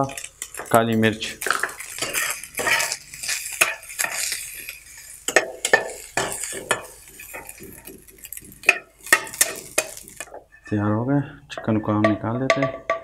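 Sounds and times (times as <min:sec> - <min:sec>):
chicken sizzling: 0:00.0 - 0:10.7
spatula scraping a frying pan: 0:00.0 - 0:10.9.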